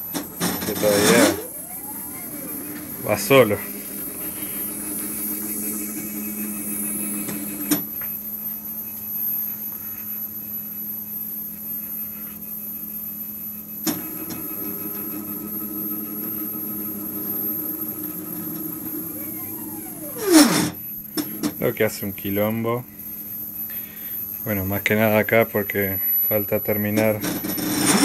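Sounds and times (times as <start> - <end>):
stepper motor whine: 0.0 - 28.0.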